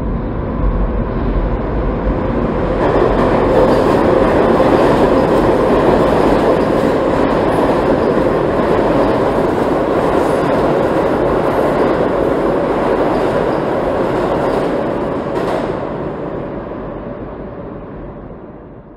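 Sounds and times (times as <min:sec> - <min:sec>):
steady tone: 0:00.0 - 0:18.9
subway train rumbling on rails: 0:00.0 - 0:18.9.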